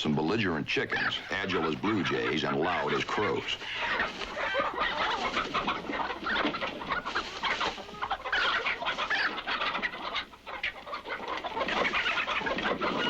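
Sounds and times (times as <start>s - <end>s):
chickens squawking and clucking: 0.0s - 13.0s.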